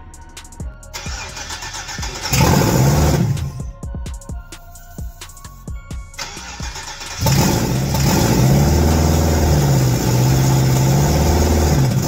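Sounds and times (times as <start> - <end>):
car engine starting and idling: 0.0 - 3.8, 6.0 - 12.0.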